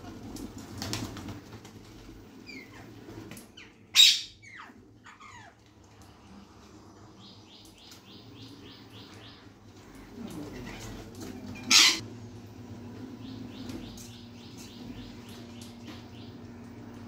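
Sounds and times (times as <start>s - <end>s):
birds chirping: 2.4s - 12.0s, 12.9s - 17.0s.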